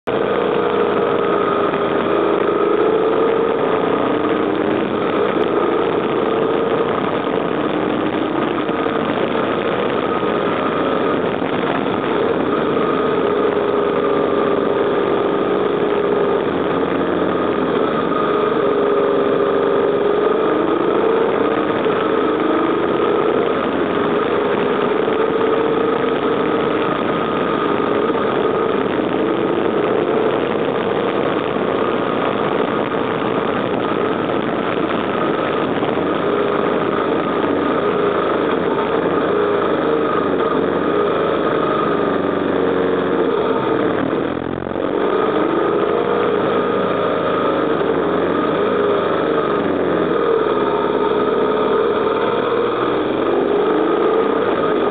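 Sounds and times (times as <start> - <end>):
motorcycle engine running: 0.0 - 54.9
rush of noise: 0.0 - 54.9.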